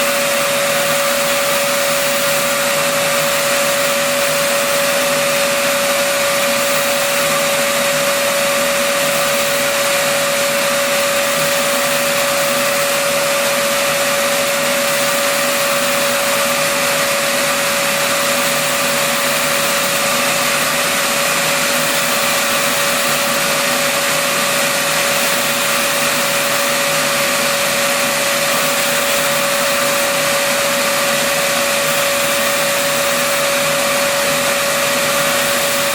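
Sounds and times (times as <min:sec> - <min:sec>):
router spindle whine: 0:00.0 - 0:35.9.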